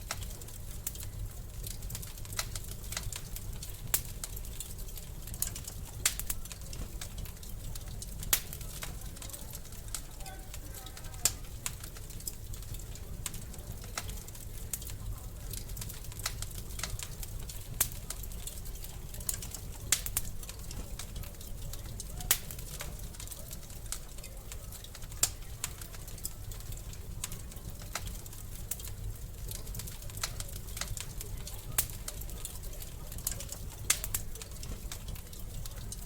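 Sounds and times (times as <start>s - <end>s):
low fire rumble: 0.0s - 36.0s
wood fire crackling and popping: 0.0s - 36.0s.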